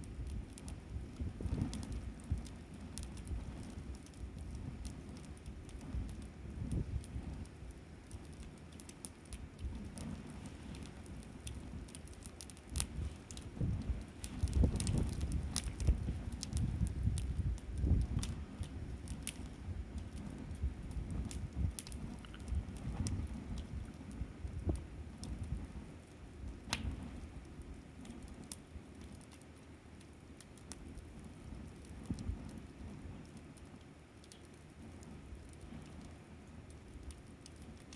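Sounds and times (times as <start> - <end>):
campfire crackling and popping: 0.0 - 37.9
low uneven rumble: 0.0 - 37.9.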